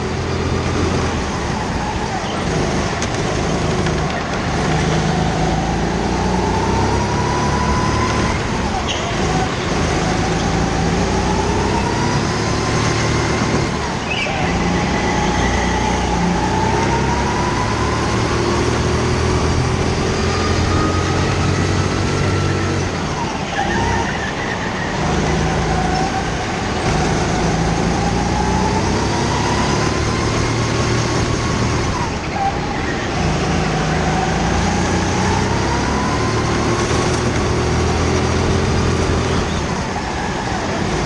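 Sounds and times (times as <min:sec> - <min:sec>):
go-kart engine: 0:00.0 - 0:41.0.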